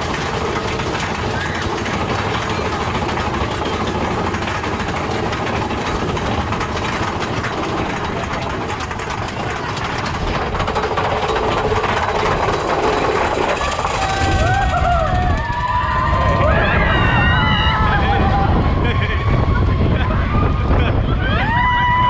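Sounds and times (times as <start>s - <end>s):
rattle of coaster cars: 0.0s - 22.0s
roller coaster train running: 0.0s - 22.0s.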